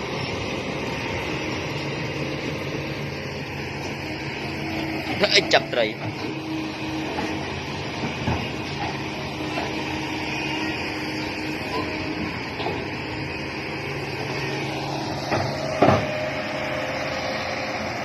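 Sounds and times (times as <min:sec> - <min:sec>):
model excavator motors whirring: 0:00.0 - 0:18.0.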